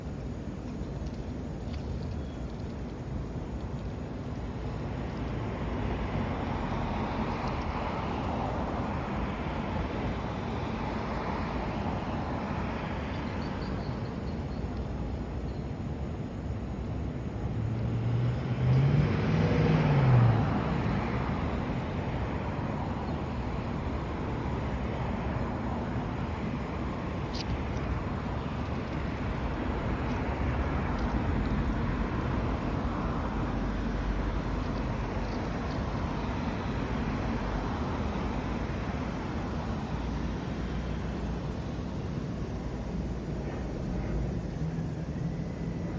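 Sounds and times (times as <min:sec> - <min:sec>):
outdoor background rumble: 0:00.0 - 0:45.9.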